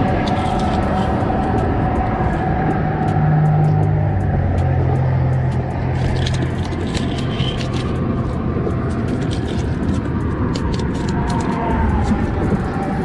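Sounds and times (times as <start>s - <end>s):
low engine hum: 0.0s - 13.0s
steady traffic rush: 0.0s - 13.0s.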